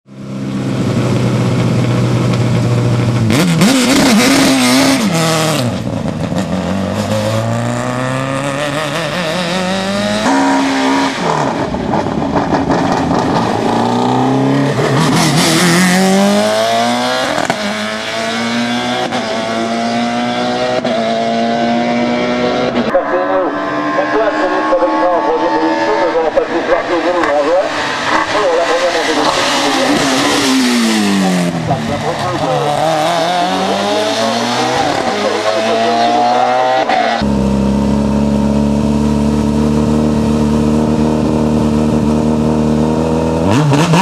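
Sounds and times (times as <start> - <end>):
race car engines revving: 0.1 - 44.0.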